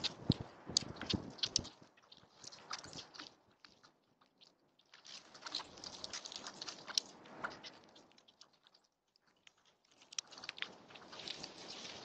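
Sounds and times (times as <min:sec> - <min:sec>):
birds pecking at seed feeder: 0:00.0 - 0:12.0.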